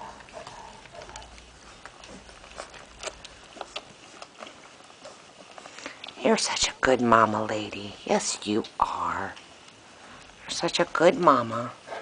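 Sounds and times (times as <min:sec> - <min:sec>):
puppies sucking and smacking: 0:00.0 - 0:12.0.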